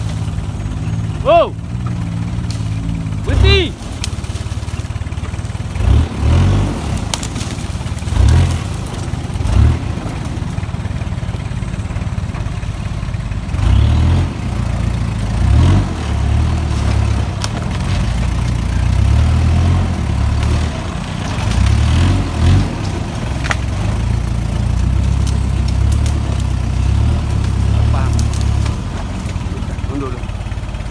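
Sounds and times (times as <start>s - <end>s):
engine rumbling at low speed: 0.0s - 30.9s.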